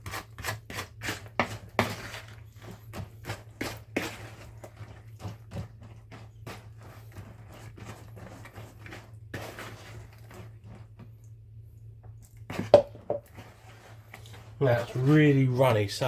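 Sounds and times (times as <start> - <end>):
batter being mixed in a bowl: 0.0 - 16.0.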